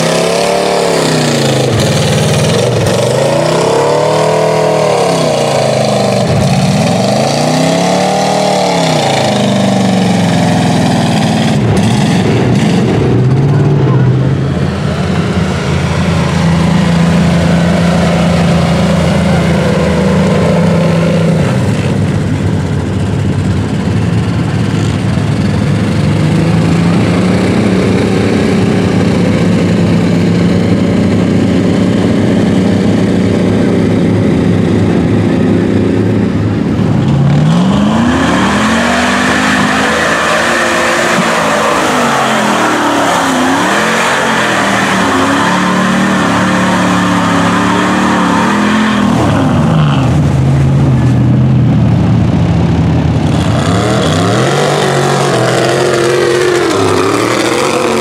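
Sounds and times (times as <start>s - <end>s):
engine running under load: 0.0s - 58.0s
tires churning mud: 0.0s - 58.0s
truck engine revving: 0.0s - 58.0s.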